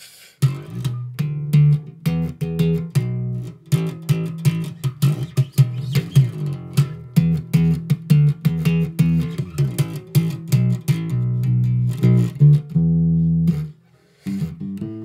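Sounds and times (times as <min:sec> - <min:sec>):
bass line: 0:00.4 - 0:15.0
plucked guitar: 0:00.4 - 0:15.0.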